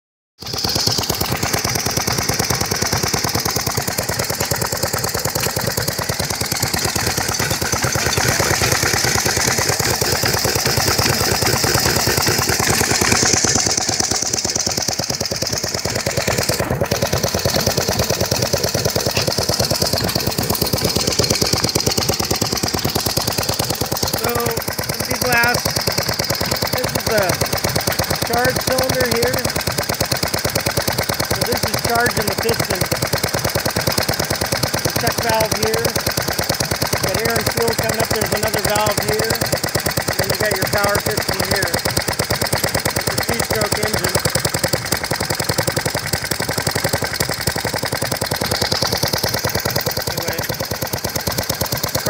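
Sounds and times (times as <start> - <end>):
two-stroke engine running: 0.4 - 52.0.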